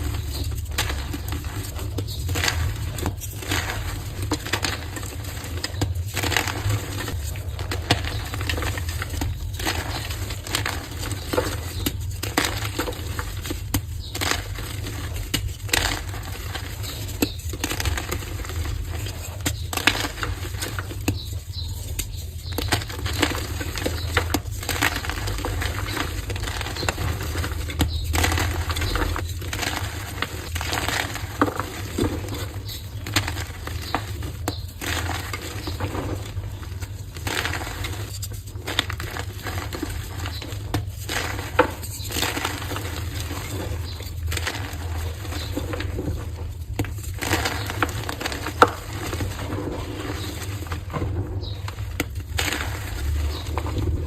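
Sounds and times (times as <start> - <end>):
chalk blocks crunching: 0.0 - 54.0.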